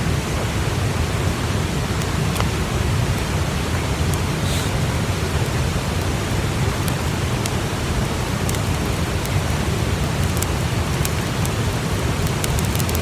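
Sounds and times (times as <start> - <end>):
campfire crackles: 0.0 - 13.0
steady rushing noise: 0.0 - 13.0.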